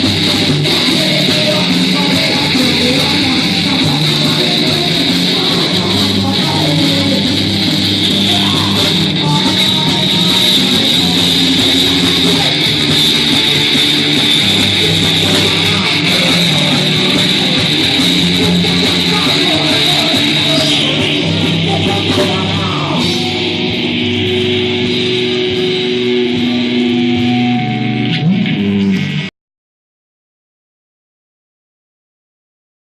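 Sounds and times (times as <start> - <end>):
rock band music led by guitar: 0.0 - 29.3.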